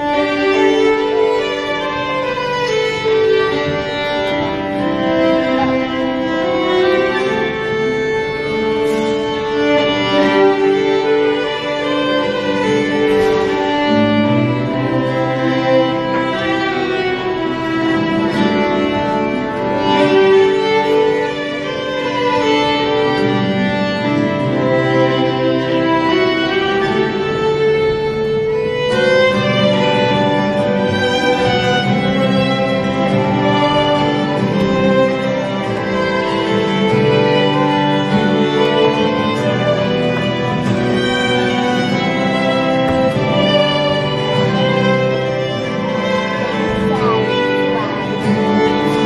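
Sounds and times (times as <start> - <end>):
fiddles playing a slow waltz: 0.0 - 49.0
strummed acoustic guitar: 0.0 - 49.0.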